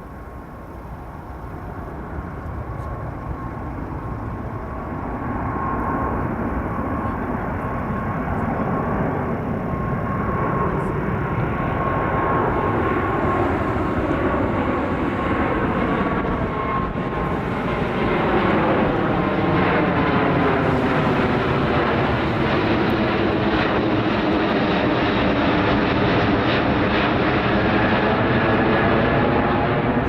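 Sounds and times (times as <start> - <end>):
airliner jet engines flying past: 0.0 - 30.0.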